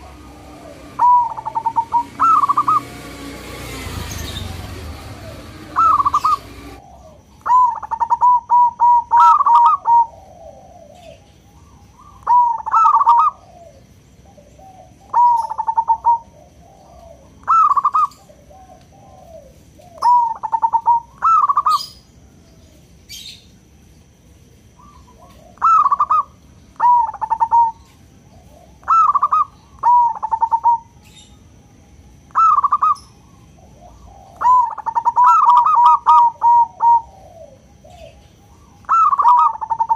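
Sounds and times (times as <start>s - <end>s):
dove cooing: 0.0s - 23.3s, 24.8s - 31.2s, 32.3s - 39.9s.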